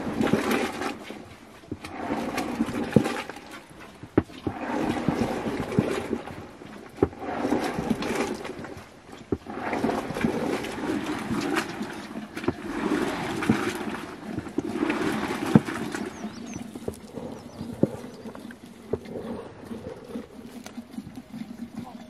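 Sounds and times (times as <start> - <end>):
liquid sloshing in churn: 0.0 - 22.0.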